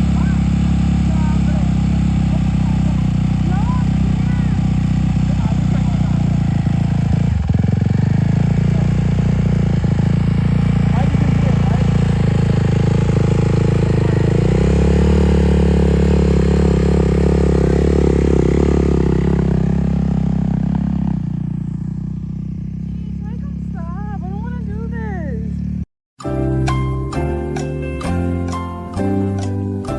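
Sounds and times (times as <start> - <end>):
dirt bike engine running: 0.0 - 25.9.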